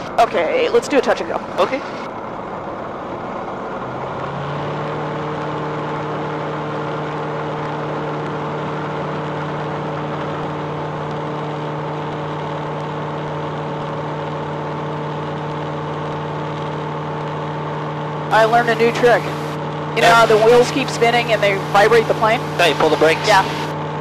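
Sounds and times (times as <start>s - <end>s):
aircraft engine at full power: 0.0s - 24.0s.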